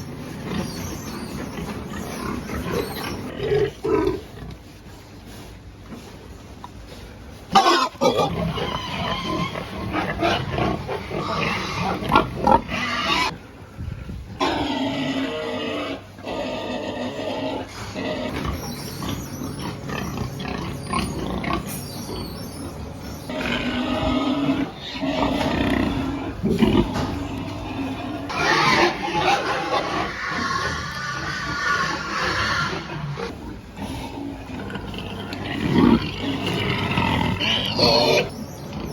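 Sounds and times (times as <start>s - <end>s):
pigs squealing and grunting: 0.0s - 4.6s, 7.4s - 13.4s, 14.4s - 38.9s.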